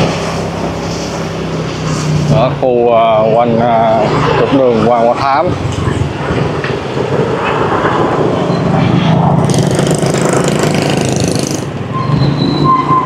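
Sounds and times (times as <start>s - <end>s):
motorbike engines: 0.0s - 13.0s
street traffic: 0.0s - 13.0s.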